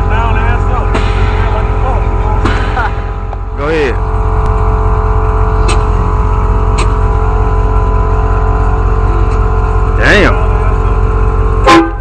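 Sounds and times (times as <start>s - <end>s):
pickup truck engine rumbling: 0.0s - 12.0s.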